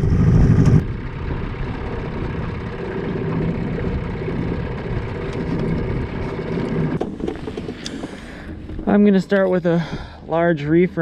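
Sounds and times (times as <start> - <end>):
outboard motor running: 0.0 - 10.2.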